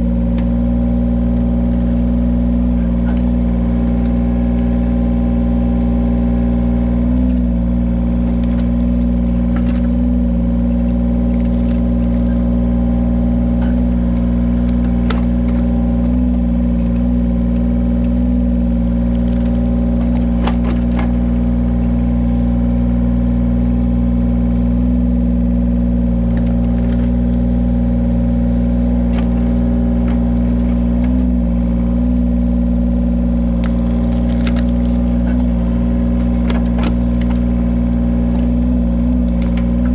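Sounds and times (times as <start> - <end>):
wood splitter engine running: 0.0 - 39.9.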